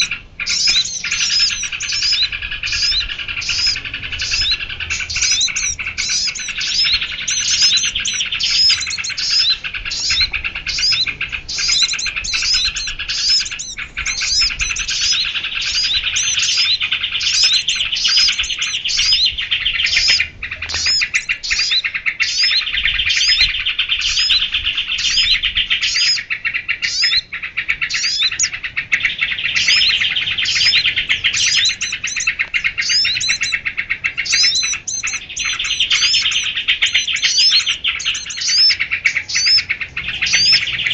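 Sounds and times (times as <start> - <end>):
sharp high sweeping bird notes: 0.0 - 21.8, 29.5 - 40.9
small birds twittering: 0.0 - 40.9.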